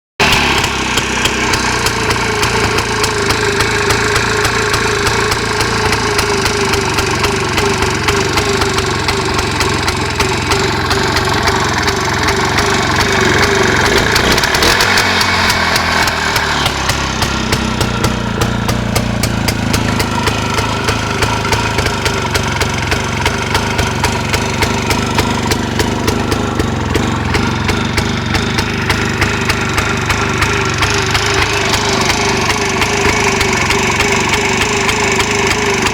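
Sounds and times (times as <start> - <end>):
two-stroke motorcycle engine running: 0.2 - 35.9.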